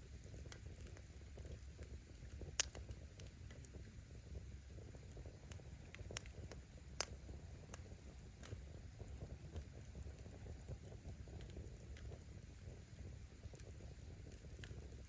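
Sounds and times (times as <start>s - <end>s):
flames rumbling: 0.0s - 15.0s
firewood crackling: 0.1s - 15.0s.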